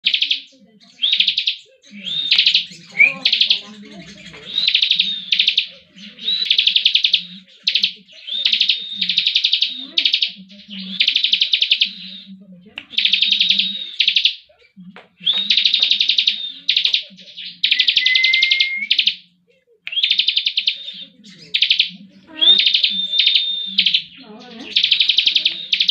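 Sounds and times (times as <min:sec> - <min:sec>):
bird singing rapid trills: 0:00.0 - 0:12.3, 0:12.9 - 0:19.2, 0:19.9 - 0:25.9.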